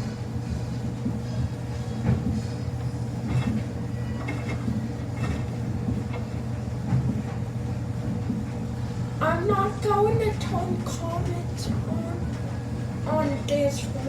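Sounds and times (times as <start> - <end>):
washing machine humming and rumbling: 0.0 - 14.0.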